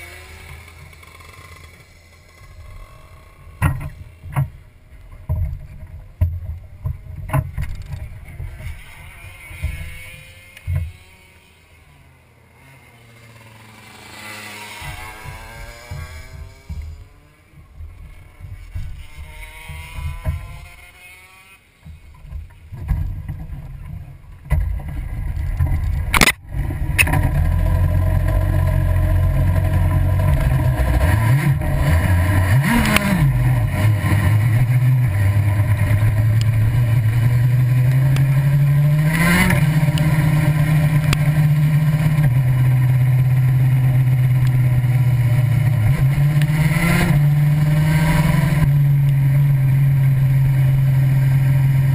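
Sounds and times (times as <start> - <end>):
vehicle engine running hard: 5.1 - 21.0, 22.1 - 51.9.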